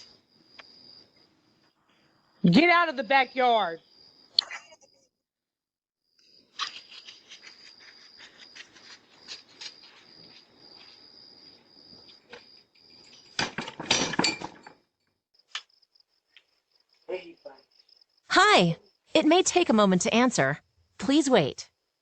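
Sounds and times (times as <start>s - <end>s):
crickets chirping: 0.0s - 5.2s, 6.0s - 22.0s.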